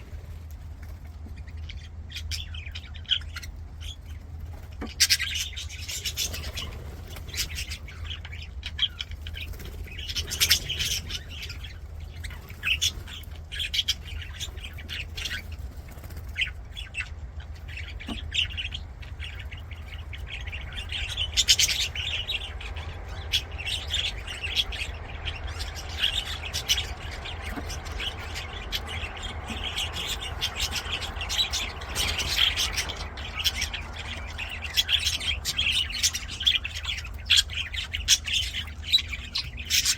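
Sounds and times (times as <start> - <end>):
budgerigars chirping: 0.0 - 39.9
steady low hum: 0.0 - 39.9.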